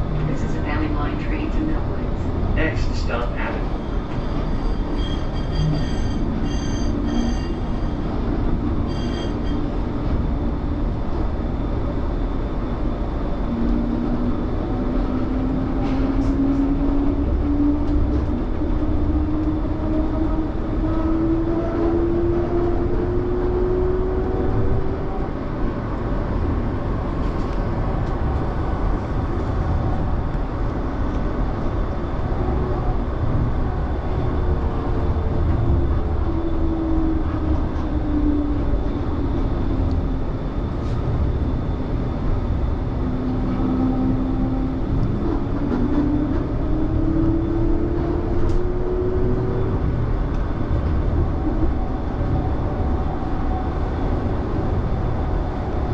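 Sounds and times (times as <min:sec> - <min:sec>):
tram wheels rumbling: 0:00.0 - 0:55.9.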